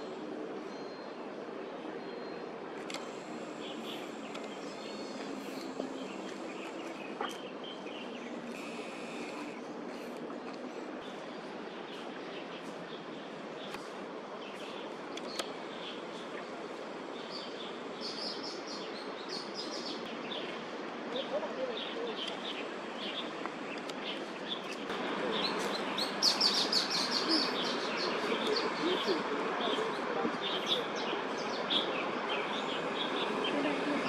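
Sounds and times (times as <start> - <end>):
background noise: 0.0 - 34.0
songbirds chirping: 0.0 - 34.0.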